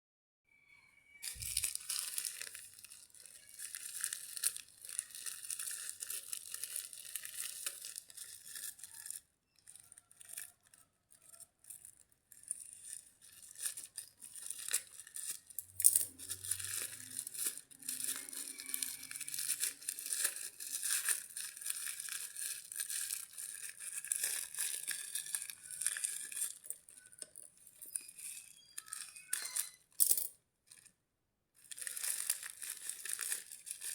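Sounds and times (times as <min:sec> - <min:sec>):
plastic packaging crinkling: 0:01.2 - 0:30.0, 0:31.6 - 0:33.9.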